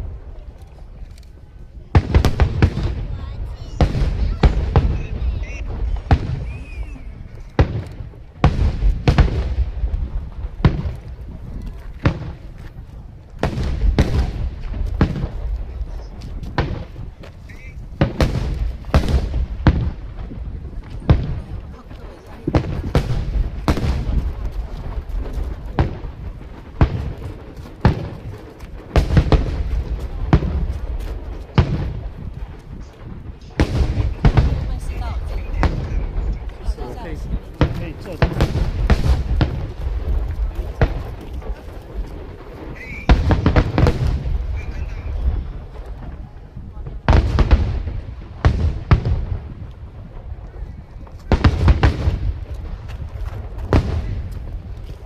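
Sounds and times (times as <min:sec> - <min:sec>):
fireworks bangs: 0:00.0 - 0:55.0
rumble of echoing detonations: 0:00.0 - 0:55.0.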